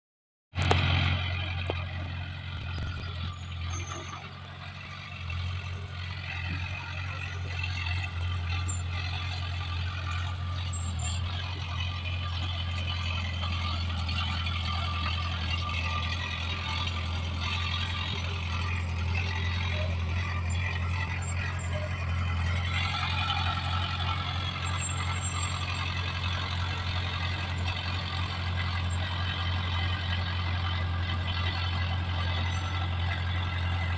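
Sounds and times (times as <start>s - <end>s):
bulldozer diesel engine droning: 0.5s - 33.9s
squealing and clatter: 0.6s - 33.9s.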